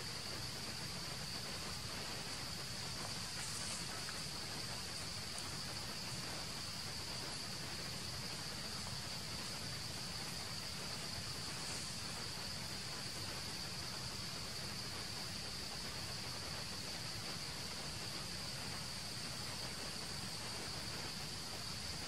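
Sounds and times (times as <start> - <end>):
insects droning: 0.0 - 22.0
outdoor hiss: 0.0 - 22.0.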